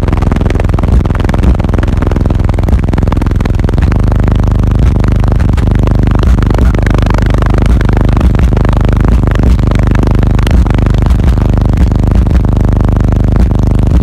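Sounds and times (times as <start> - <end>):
loud bass-heavy music distorted: 0.0 - 14.0.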